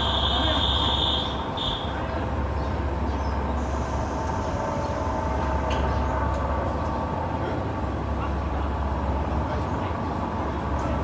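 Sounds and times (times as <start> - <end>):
diesel engine rumbling under load: 0.0 - 11.0.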